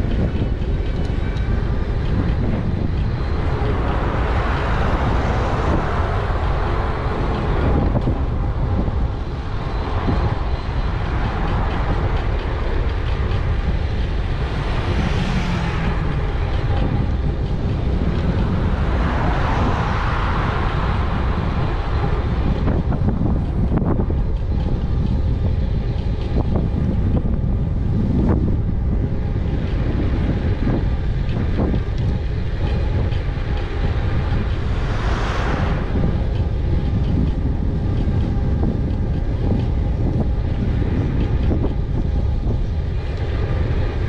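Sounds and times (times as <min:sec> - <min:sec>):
tyres rumbling on road: 0:00.0 - 0:44.0
wind buffeting microphone: 0:00.0 - 0:44.0.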